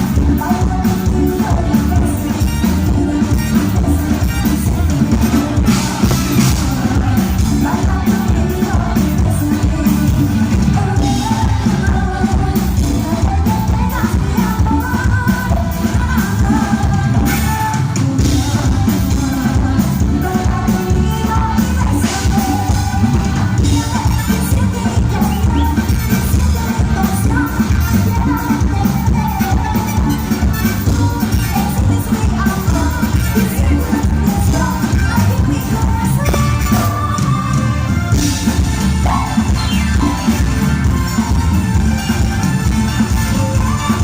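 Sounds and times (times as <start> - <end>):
latin dance music with singing: 0.0 - 44.0.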